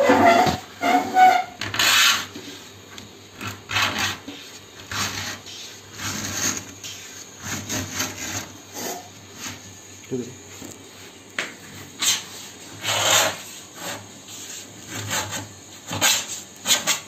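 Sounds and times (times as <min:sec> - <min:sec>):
point scraping laminate sheet: 0:00.0 - 0:02.7, 0:03.3 - 0:09.7, 0:11.6 - 0:17.0.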